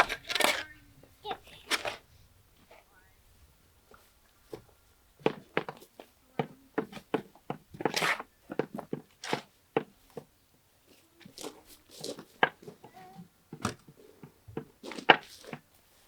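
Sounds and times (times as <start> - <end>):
rasping rustle: 0.0 - 16.0.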